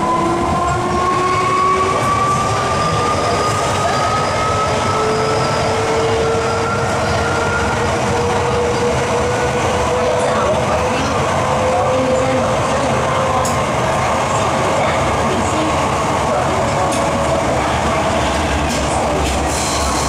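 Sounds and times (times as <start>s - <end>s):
wheels rumbling on track: 0.0s - 20.0s.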